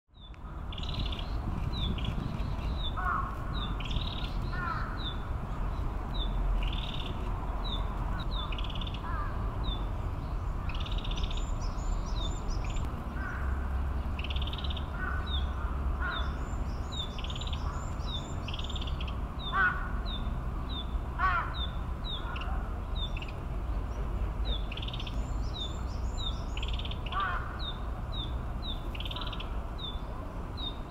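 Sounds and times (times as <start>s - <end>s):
other birds calling: 0.3s - 30.9s.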